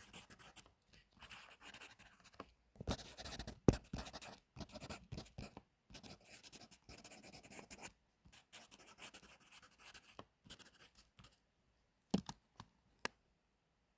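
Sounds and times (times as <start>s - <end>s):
pencil writing on paper: 0.0s - 11.4s.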